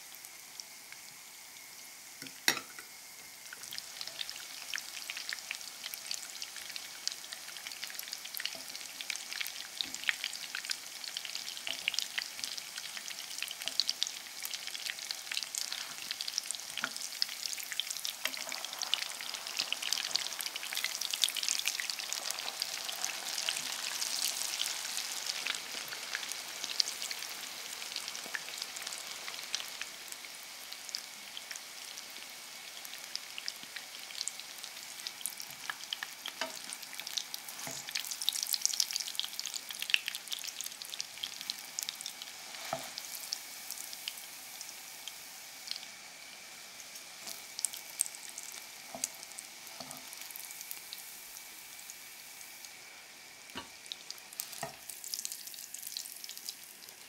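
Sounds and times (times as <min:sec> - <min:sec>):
oil sizzling and crackling: 0:00.0 - 0:57.0.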